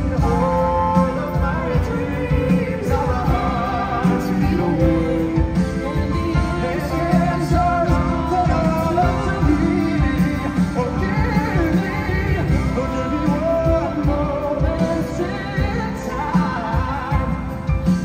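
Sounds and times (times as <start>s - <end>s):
live band playing: 0.0s - 18.0s
man singing into microphone: 0.0s - 18.0s.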